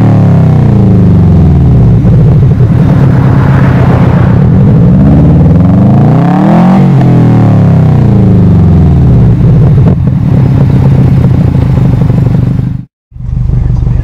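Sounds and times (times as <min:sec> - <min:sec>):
car engine revving then idling: 0:00.0 - 0:14.0.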